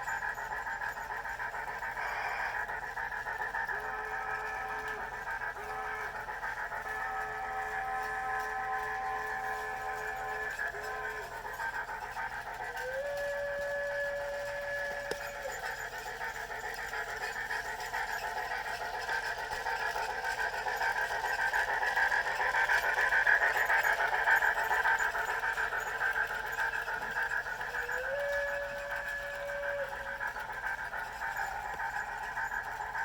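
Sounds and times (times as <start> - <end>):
locomotive whistle: 0.0 - 33.0
steam locomotive hissing chuff: 0.0 - 33.0.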